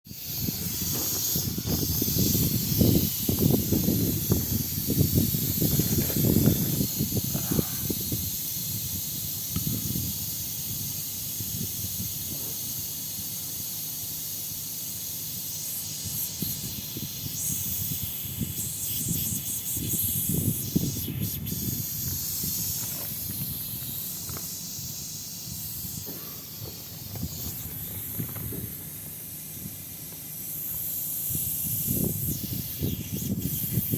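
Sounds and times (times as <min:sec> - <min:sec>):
refrigerant gas hissing: 0:00.0 - 0:33.9.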